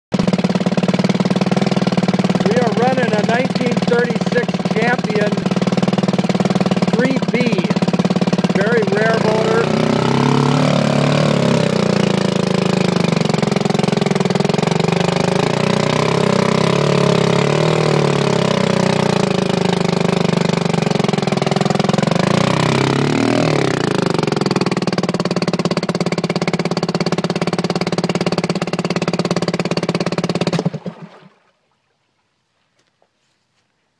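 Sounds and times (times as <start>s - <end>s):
outboard motor running: 0.1s - 31.9s.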